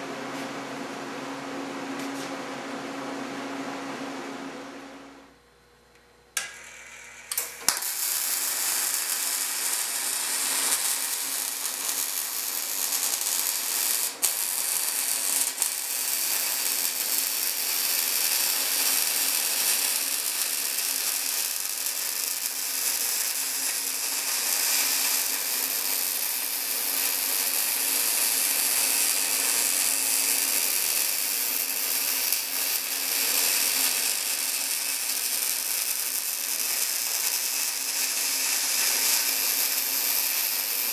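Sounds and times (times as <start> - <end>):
welding arc crackling: 6.4 - 40.9.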